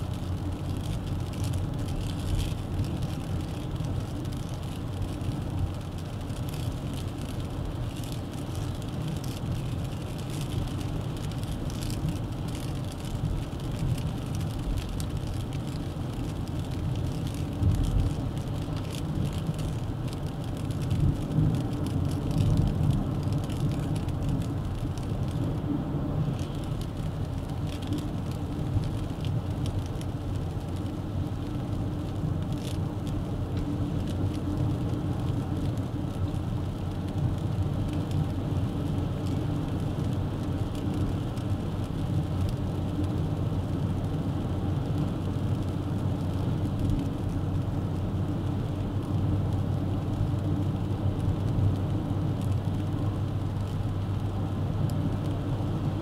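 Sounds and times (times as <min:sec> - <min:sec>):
car engine and tyre drone: 0:00.0 - 0:56.0.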